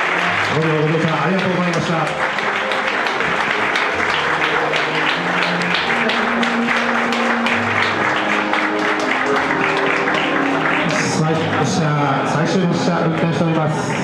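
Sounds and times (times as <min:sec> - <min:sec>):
background music: 0:00.0 - 0:14.0
crowd applauding: 0:00.0 - 0:14.0.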